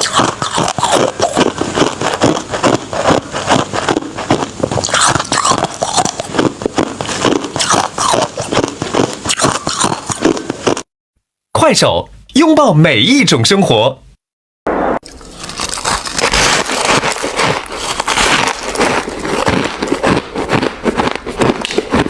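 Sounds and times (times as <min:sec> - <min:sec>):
ice being chewed: 0:00.0 - 0:10.9, 0:15.0 - 0:22.0.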